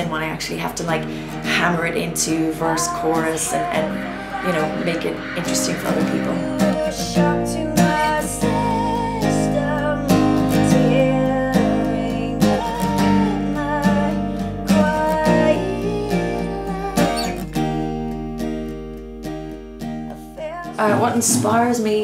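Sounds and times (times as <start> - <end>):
woman singing: 0.0 - 17.7, 20.1 - 22.0
strummed acoustic guitar: 0.0 - 22.0.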